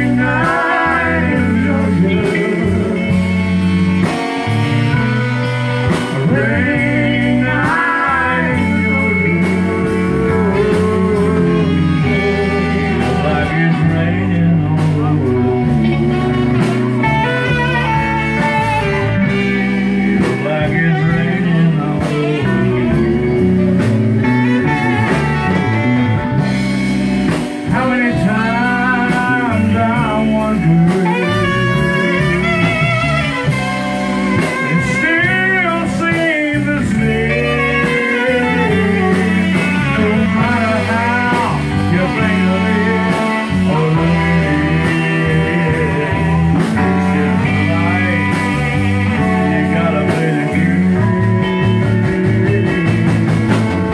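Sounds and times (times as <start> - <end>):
drums: 0.0 - 53.9
guitar: 0.0 - 53.9
saxophones: 0.0 - 53.9.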